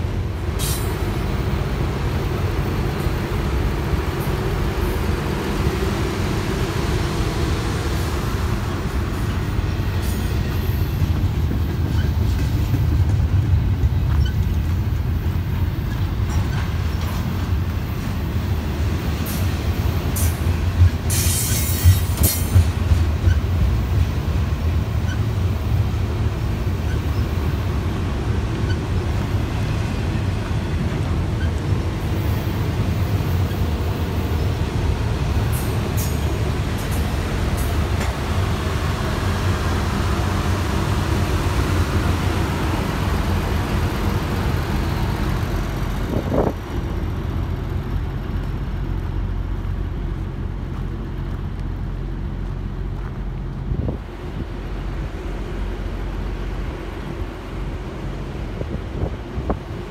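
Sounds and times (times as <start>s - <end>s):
rail car rumbling on rails: 0.0s - 59.9s.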